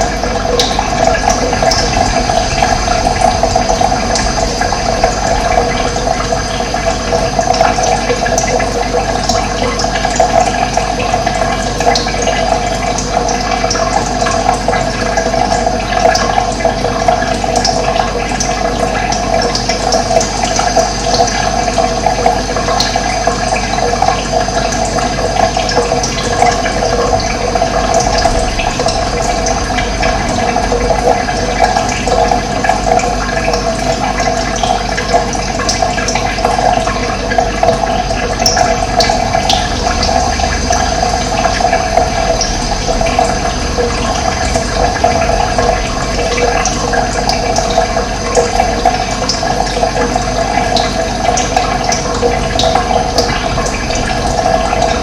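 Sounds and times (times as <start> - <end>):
running water splashing: 0.0 - 55.0.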